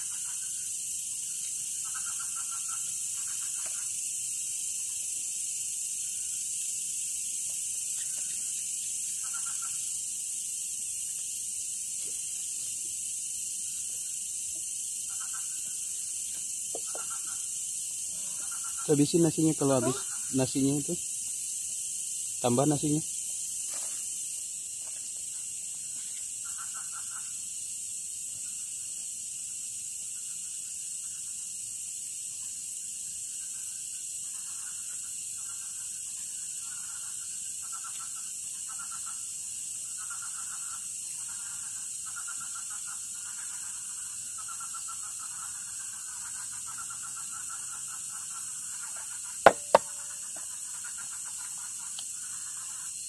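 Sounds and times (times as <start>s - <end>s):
frogs calling: 0.0s - 10.6s, 11.2s - 24.5s, 25.3s - 28.9s, 32.4s - 53.0s
insects shrilling: 0.0s - 53.0s.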